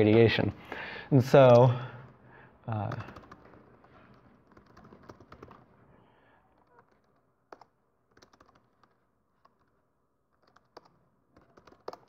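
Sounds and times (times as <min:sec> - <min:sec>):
laptop keyboard typing: 0:01.2 - 0:12.0.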